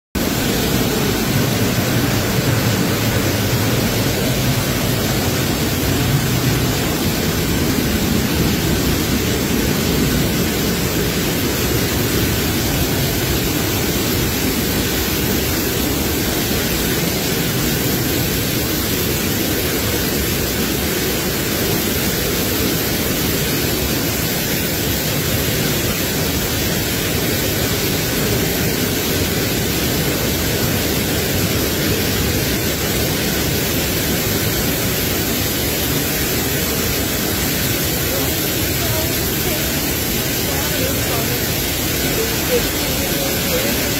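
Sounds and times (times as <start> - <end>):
waterfall rushing: 0.2 - 43.9.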